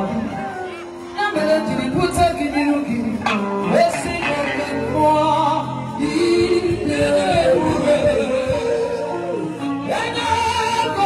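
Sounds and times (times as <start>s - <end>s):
music: 0.0s - 11.0s
woman singing into microphone: 0.0s - 11.0s.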